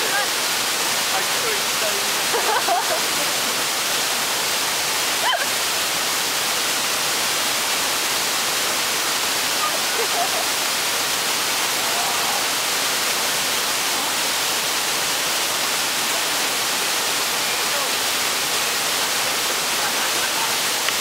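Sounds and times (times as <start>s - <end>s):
waterfall pouring onto rock: 0.0s - 21.0s.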